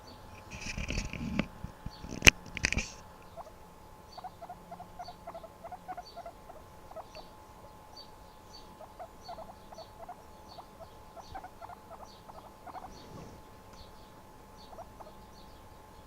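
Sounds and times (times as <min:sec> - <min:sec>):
guinea pig squeaking: 0:01.9 - 0:14.0, 0:14.6 - 0:15.5.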